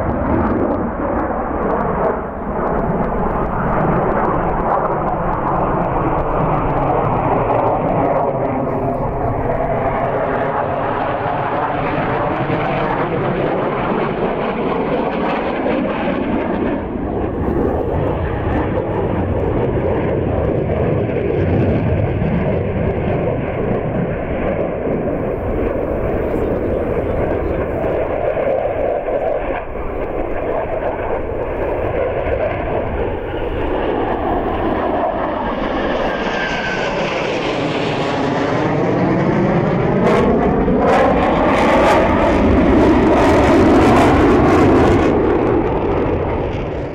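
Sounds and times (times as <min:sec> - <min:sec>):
jet rumble in flight: 0:00.0 - 0:46.9.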